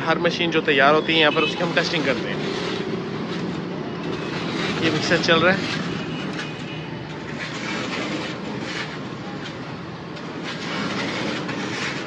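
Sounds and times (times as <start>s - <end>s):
mixer clattering and rumbling: 0.9s - 12.0s.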